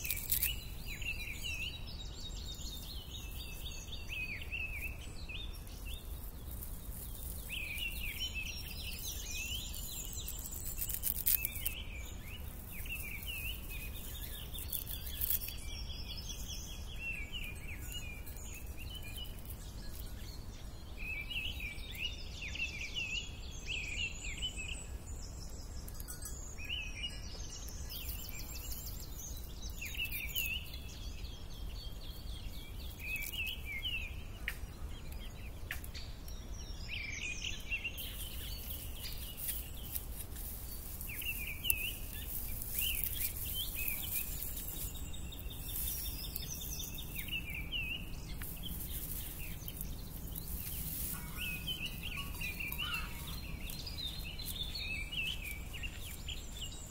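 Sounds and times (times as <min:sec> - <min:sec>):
birds chirping and singing: 0:00.0 - 0:56.9.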